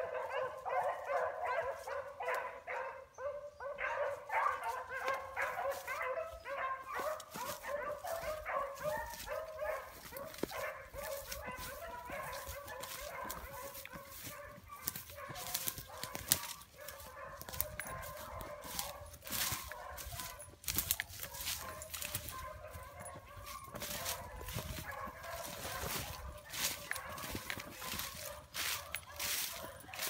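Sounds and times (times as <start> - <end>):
hounds baying: 0.0 - 30.0
brush crackling: 4.4 - 30.0.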